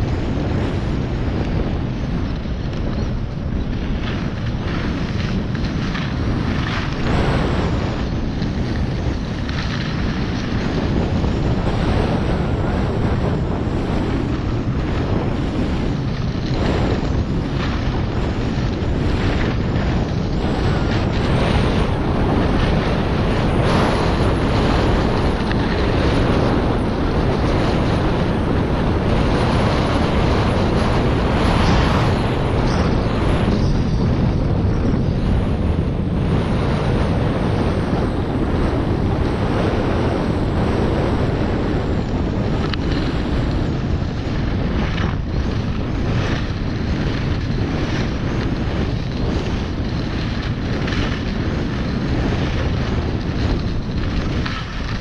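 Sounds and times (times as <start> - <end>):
skis scraping on snow: 0.0 - 55.0
wind buffeting microphone: 0.0 - 55.0.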